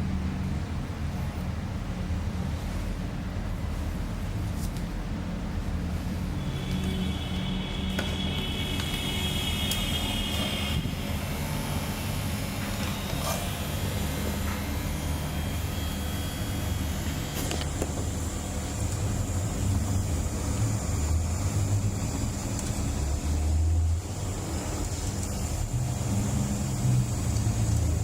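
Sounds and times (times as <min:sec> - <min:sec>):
portable fan humming: 0:00.0 - 0:28.0.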